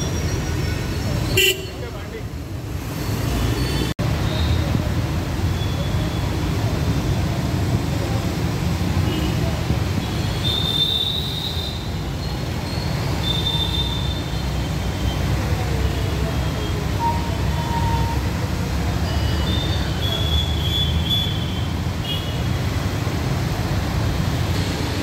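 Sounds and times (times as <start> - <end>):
engines rumbling through water: 2.1 - 25.0.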